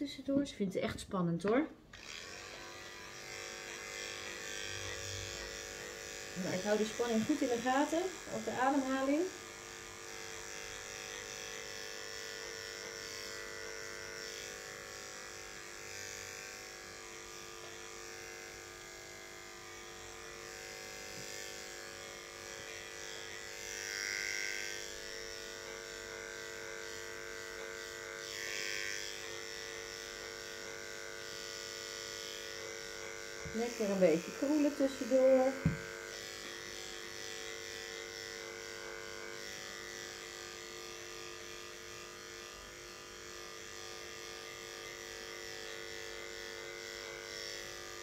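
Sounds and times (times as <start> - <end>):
electric pet clipper humming: 1.4 - 48.0.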